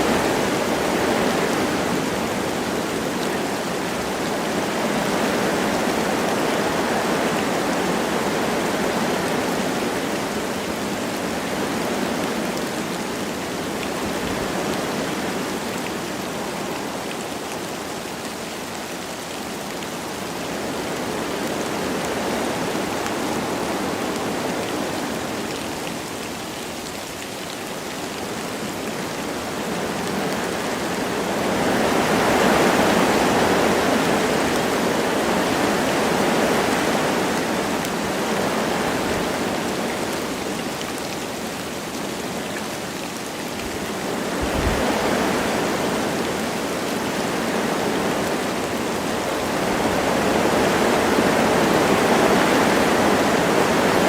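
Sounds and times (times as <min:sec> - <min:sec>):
light rain: 0:00.0 - 0:54.0
wind through trees: 0:00.0 - 0:54.0.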